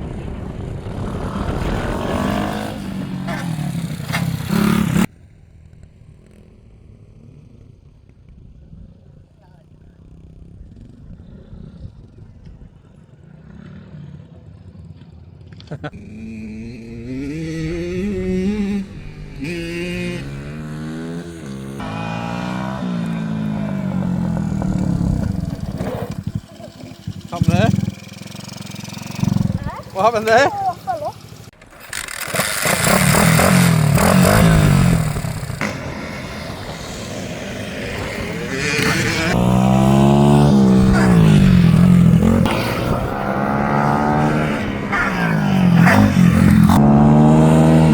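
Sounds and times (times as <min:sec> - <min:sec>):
motorbike engine revving: 0:00.0 - 0:05.2, 0:09.9 - 0:47.9.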